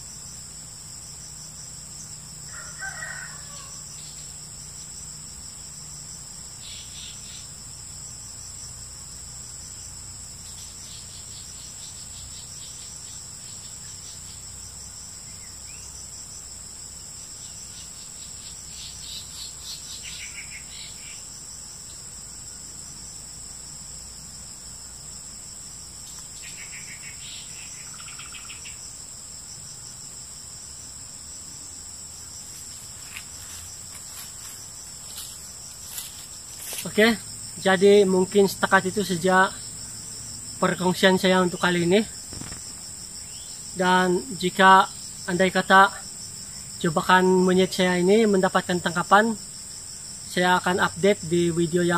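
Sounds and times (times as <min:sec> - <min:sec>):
insect trills: 0:00.0 - 0:51.9
insects droning: 0:00.0 - 0:51.9.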